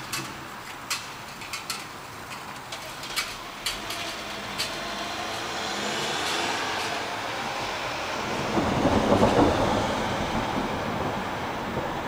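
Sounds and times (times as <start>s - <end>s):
raindrops clicking on hard surface: 0.0s - 7.6s, 8.2s - 12.0s
rain hiss: 0.0s - 12.0s.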